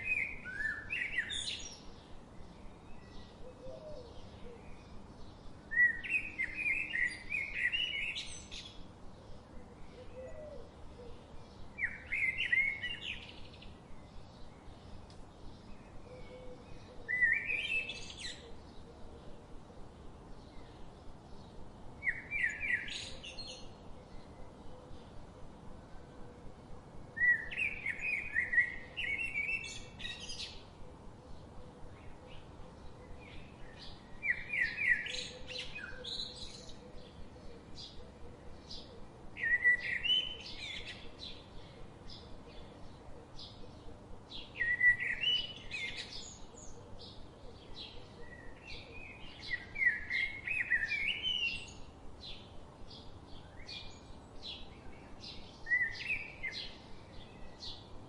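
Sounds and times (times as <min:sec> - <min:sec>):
songbird chirping phrase: 0:00.0 - 0:58.0.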